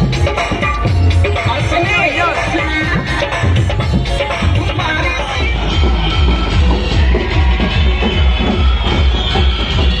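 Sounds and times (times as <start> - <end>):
loud music with fast bass beat: 0.0 - 10.0.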